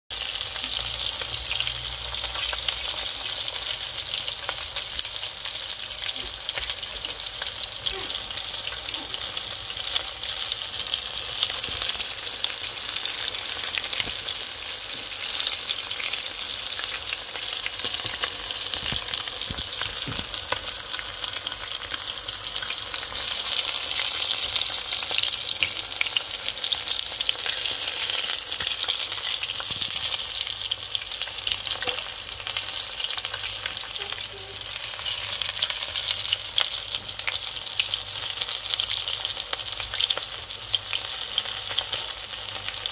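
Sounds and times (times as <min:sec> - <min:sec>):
chicken sizzling in hot oil: 0:00.1 - 0:42.9.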